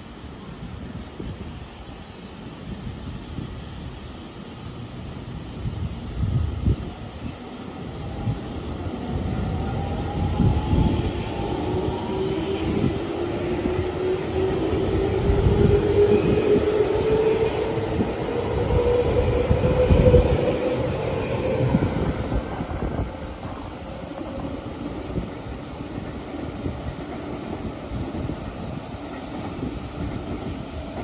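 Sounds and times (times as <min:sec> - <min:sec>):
train wheels rumbling and clacking: 0:05.0 - 0:31.0.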